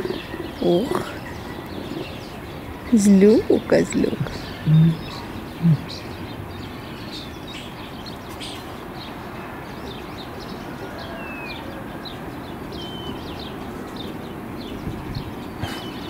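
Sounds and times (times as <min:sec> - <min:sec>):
outdoor background hiss: 0:00.0 - 0:16.0
small birds chirping: 0:00.0 - 0:16.0.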